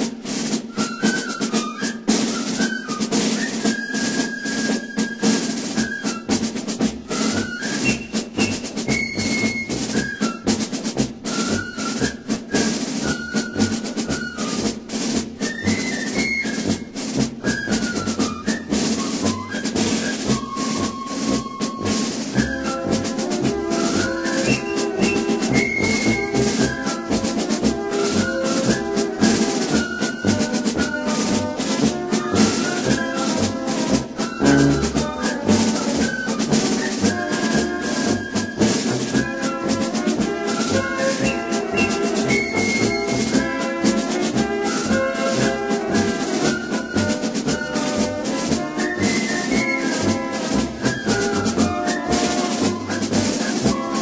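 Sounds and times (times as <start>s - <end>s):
brass melody: 0.0s - 54.0s
rattling percussion: 0.0s - 54.0s.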